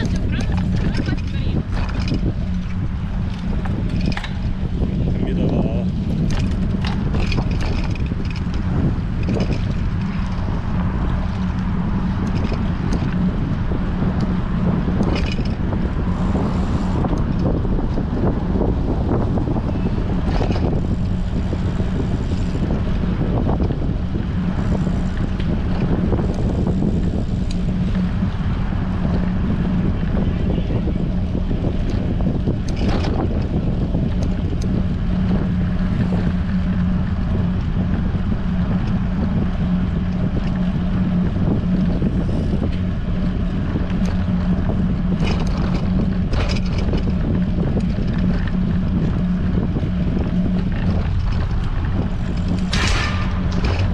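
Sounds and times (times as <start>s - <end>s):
constant low hum: 0.0s - 53.9s
wind noise on microphone: 0.0s - 53.9s.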